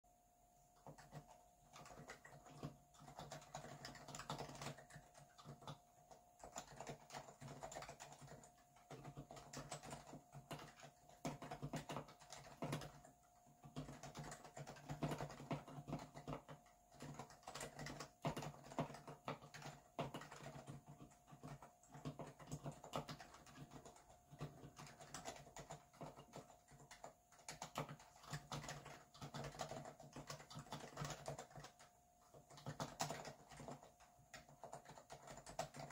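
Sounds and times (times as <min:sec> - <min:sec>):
quiet keyboard typing: 0:00.5 - 0:35.9.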